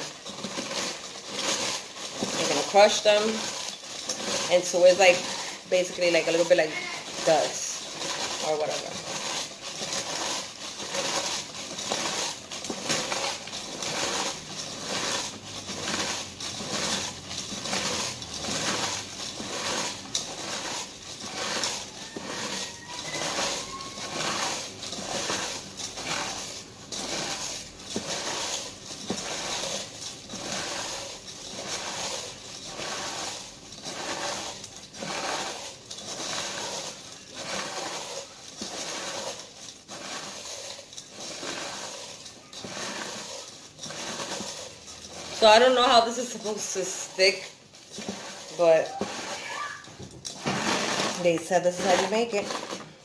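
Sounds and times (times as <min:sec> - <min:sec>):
tortilla chips crunching in a pan: 0:00.0 - 0:53.0.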